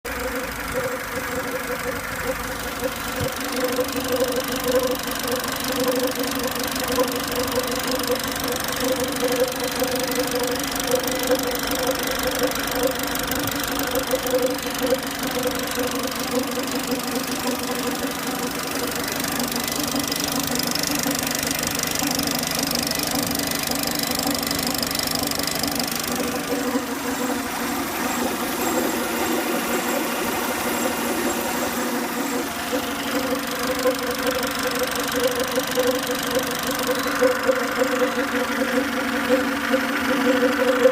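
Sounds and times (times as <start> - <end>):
car engine with abnormal noise: 0.0 - 40.9.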